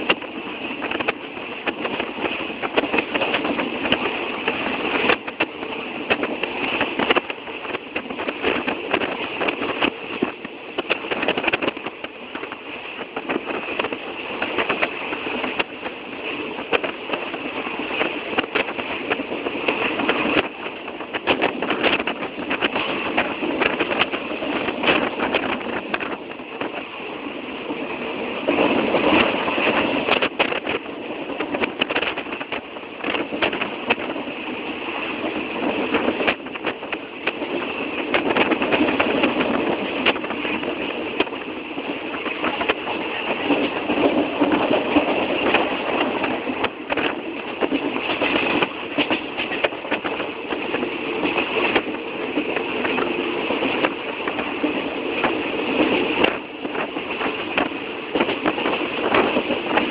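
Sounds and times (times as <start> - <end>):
rattling clicks of train: 0.0 - 59.9
train running noise: 0.0 - 59.9.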